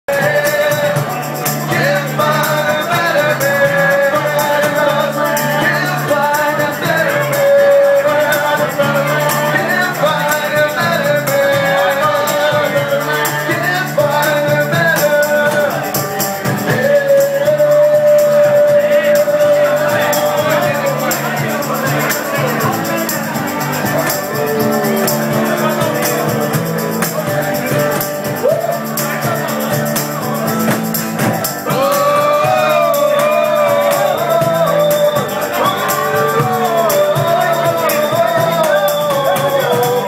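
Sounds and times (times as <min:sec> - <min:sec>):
bass: 0:00.0 - 0:40.0
acoustic guitar: 0:00.1 - 0:40.0
light percussion: 0:00.1 - 0:40.0
man singing into a microphone: 0:00.1 - 0:40.0.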